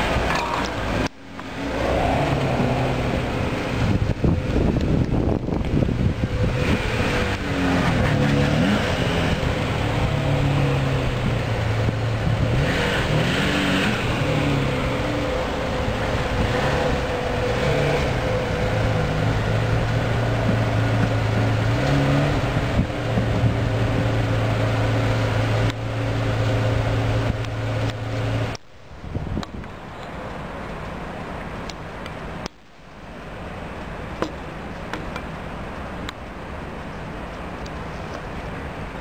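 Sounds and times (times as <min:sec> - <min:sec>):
car engine running at low speed: 0:00.0 - 0:39.0.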